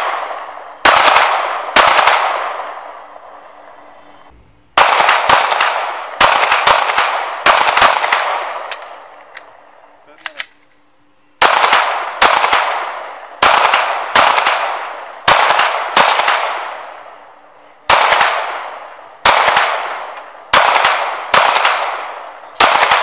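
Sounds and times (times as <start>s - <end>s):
echoing gunshots: 0.0s - 4.1s, 4.7s - 10.4s, 11.4s - 23.0s.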